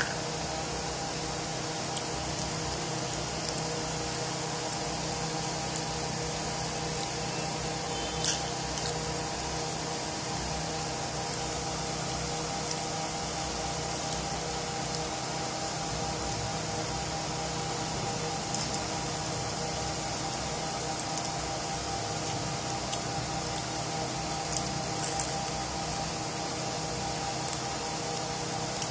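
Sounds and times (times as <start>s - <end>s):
room noise hum and hiss: 0.0s - 28.9s.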